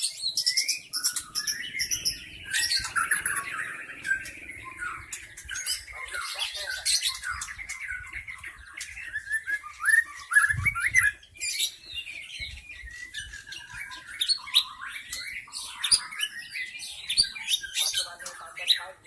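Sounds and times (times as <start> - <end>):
bird singing chirps: 0.0 - 19.0.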